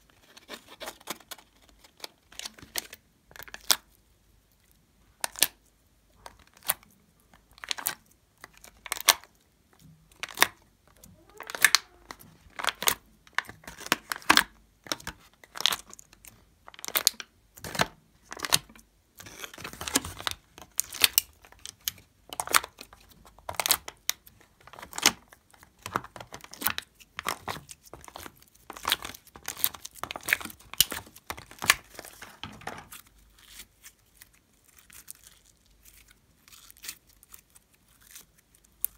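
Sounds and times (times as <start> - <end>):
slime crackling and popping: 6.2 - 38.9.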